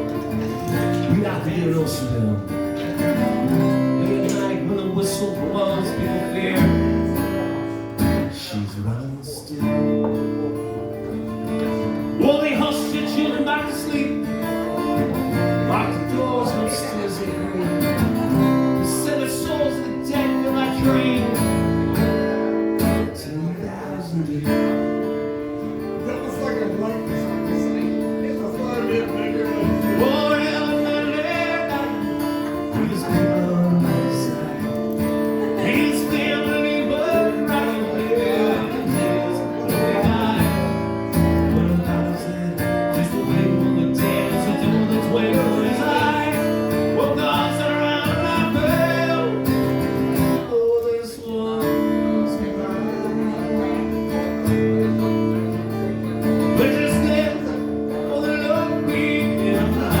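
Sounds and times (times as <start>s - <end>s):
strummed acoustic guitar: 0.0s - 60.0s.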